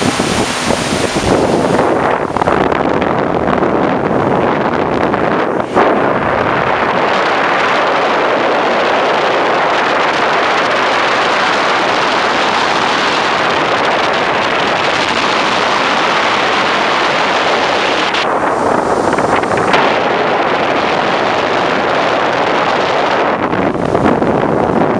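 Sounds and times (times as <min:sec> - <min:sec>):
rushing wind and water: 0:00.0 - 0:24.9.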